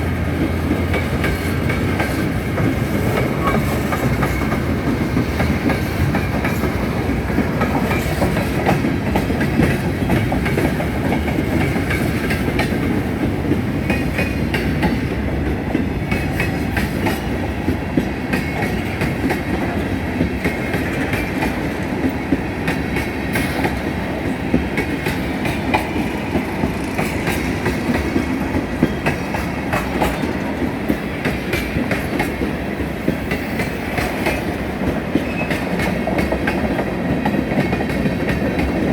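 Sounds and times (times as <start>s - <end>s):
train rumbling past: 0.0s - 38.9s
train wheels clicking over rail joints: 0.0s - 38.9s.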